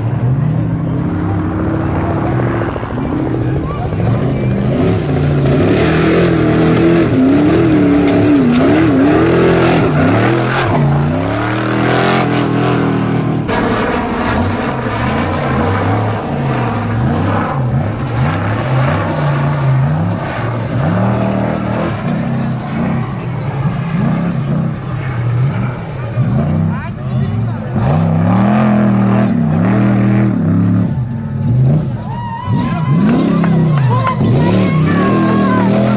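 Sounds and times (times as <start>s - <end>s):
truck engines revving hard: 0.0s - 35.9s.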